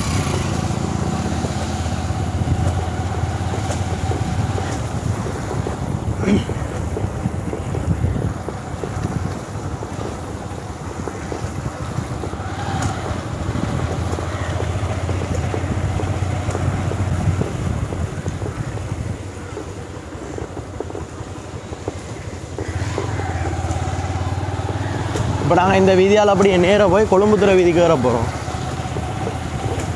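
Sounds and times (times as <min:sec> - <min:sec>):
motorcycle engine running: 0:00.0 - 0:29.9
wind on microphone: 0:00.0 - 0:29.9.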